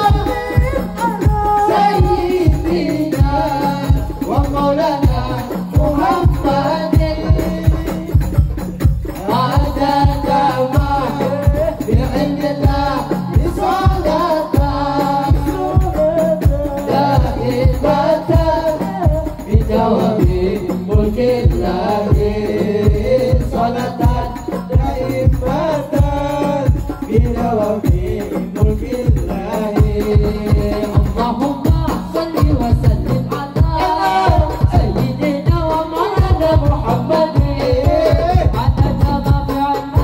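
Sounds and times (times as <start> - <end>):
frame drums beating: 0.0 - 40.0
men singing devotional song: 0.0 - 40.0.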